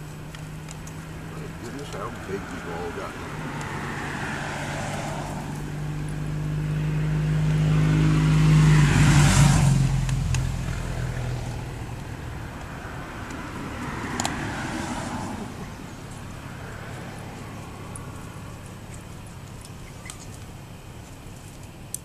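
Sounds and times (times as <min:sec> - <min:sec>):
vehicle passing by: 0:00.0 - 0:21.3.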